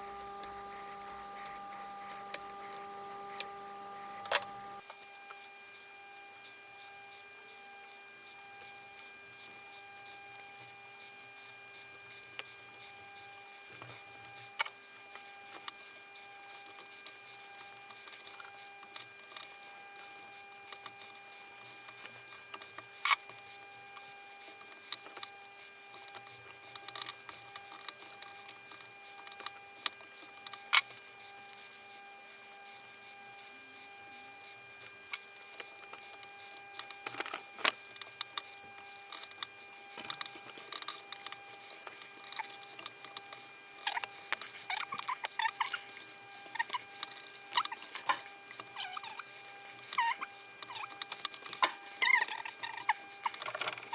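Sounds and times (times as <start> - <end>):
high-pitched electrical hum: 0.0 - 53.9.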